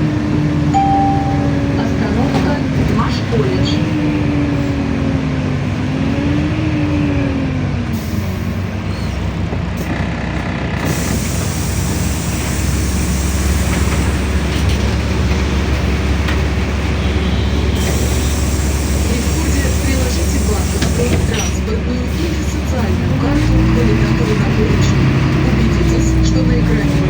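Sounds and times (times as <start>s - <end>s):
bus engine whine and rumble: 0.0s - 27.0s.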